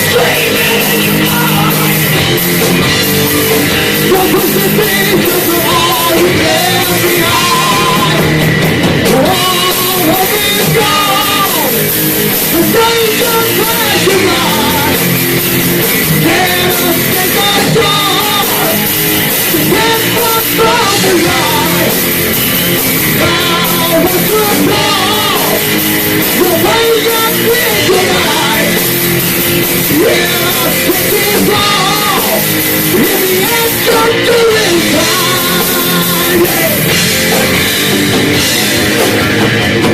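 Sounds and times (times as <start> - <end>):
person singing: 0.0 - 22.4, 23.0 - 37.4
heavy metal band playing: 0.0 - 39.9.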